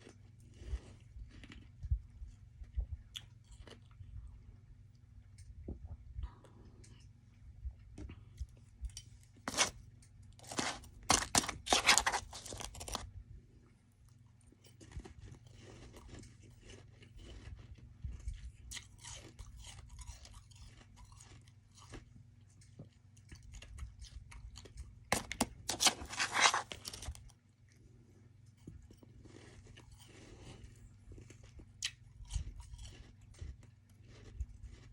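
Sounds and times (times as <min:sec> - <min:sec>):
chewing crunchy frost: 0:00.0 - 0:04.6, 0:08.0 - 0:13.1, 0:13.7 - 0:34.9.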